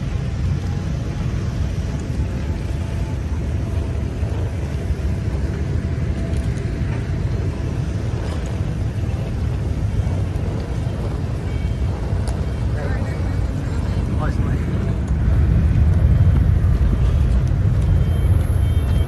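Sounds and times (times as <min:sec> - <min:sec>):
low rumble of moving vehicle: 0:00.0 - 0:19.0.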